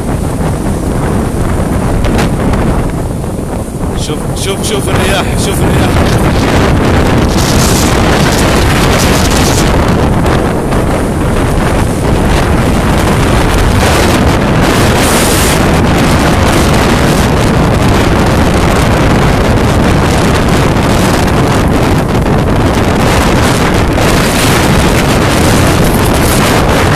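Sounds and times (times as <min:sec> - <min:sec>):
storm wind on microphone: 0:00.0 - 0:26.9.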